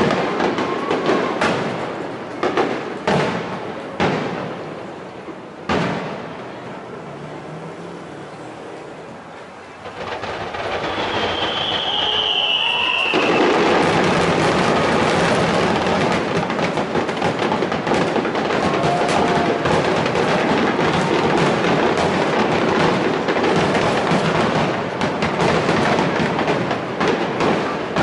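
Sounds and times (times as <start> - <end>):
fireworks booming and crackling: 0.0 - 8.4, 9.0 - 28.0.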